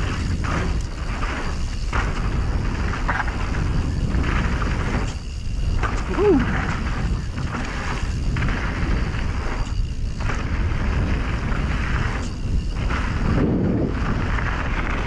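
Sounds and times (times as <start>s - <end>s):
bike tyres rumbling on dirt: 0.0s - 15.0s
wind rushing over microphone: 0.0s - 15.0s.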